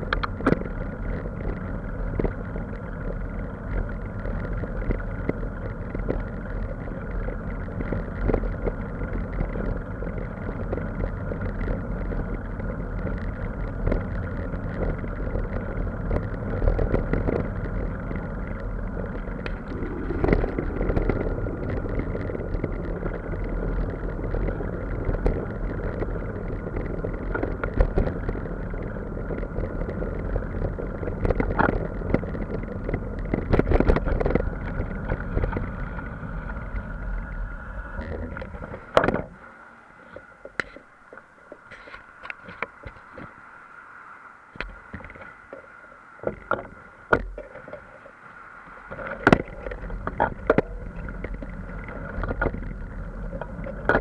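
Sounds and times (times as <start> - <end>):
engine rumble with whine: 0.0 - 54.0.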